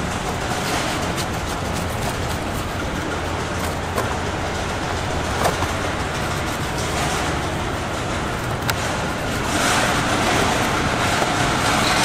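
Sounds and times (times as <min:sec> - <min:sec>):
busy market din: 0:00.0 - 0:12.0.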